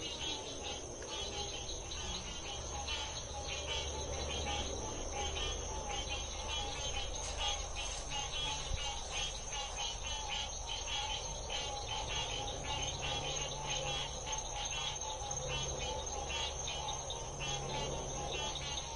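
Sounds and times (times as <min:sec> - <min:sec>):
chorus of frogs calling: 0:00.0 - 0:18.9.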